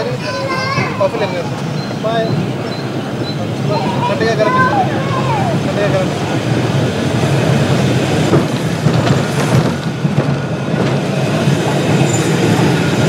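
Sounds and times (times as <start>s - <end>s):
tram wheels rumbling on track: 0.0s - 13.0s.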